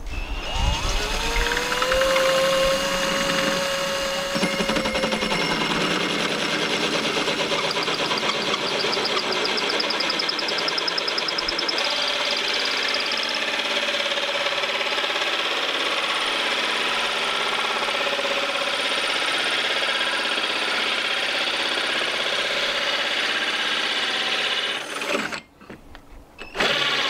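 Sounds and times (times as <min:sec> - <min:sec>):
drill with hole saw cutting: 0:00.0 - 0:25.6, 0:26.4 - 0:27.0.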